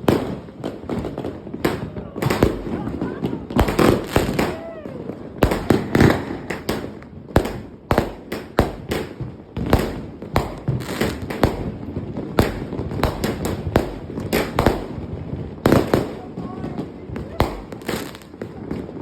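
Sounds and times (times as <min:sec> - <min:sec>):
fireworks bangs and cracks: 0:00.0 - 0:19.0.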